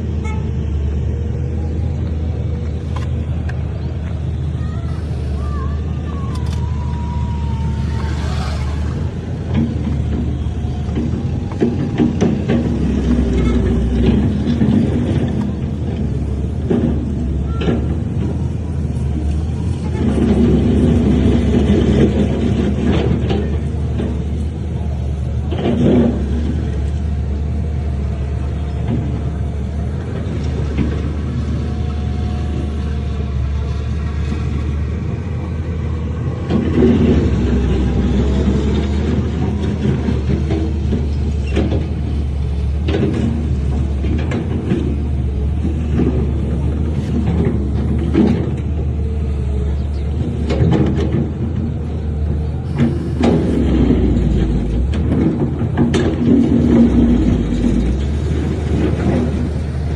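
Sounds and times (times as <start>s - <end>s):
diesel earthmoving machinery running: 0.0s - 59.9s.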